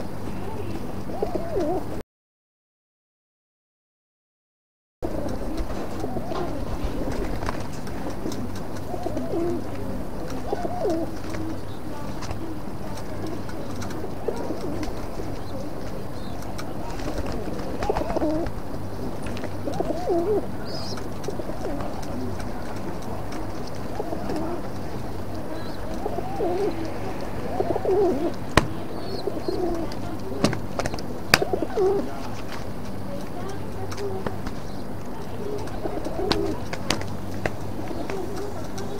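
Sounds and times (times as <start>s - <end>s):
pigeons cooing: 0.0s - 2.0s, 5.0s - 38.9s.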